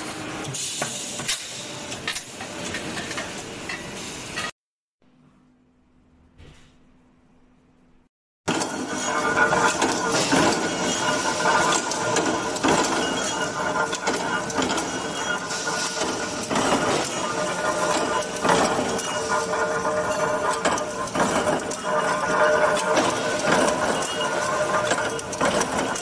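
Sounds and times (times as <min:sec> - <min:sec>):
factory machinery hum: 0:00.0 - 0:04.5, 0:05.1 - 0:26.0.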